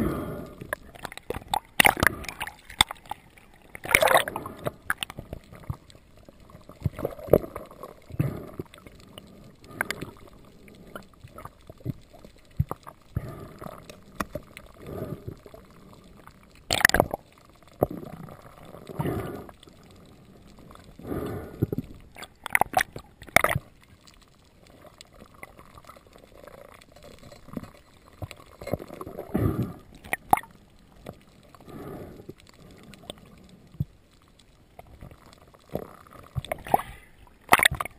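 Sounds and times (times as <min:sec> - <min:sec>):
water rushing underwater: 0:00.0 - 0:37.9.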